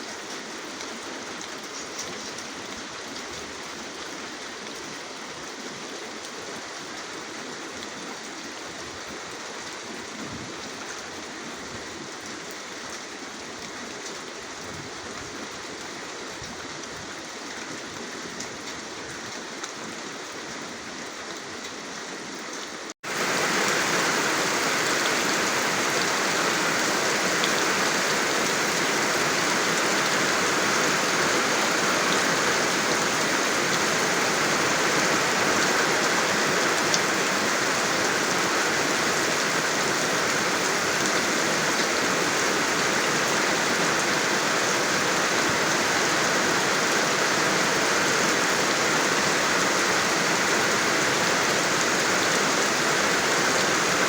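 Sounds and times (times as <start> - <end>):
rain falling: 0.0 - 54.0
rushing water: 0.0 - 54.0.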